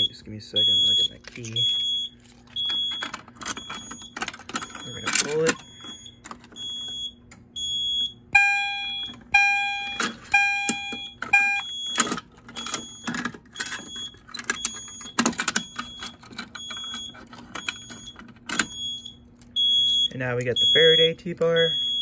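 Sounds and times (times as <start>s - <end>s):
fire alarm tone pulses: 0.0s - 22.0s.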